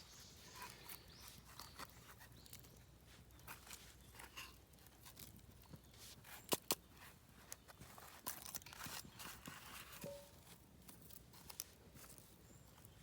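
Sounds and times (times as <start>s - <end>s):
rustling of wood shavings and leaves: 0.0s - 13.0s.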